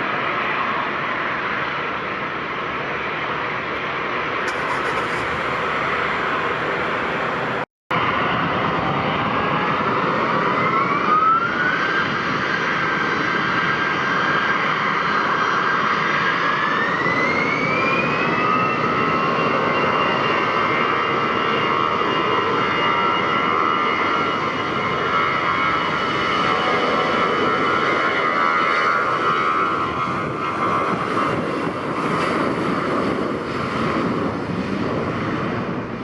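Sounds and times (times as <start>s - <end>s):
jet engines roaring and whining: 0.0s - 36.0s.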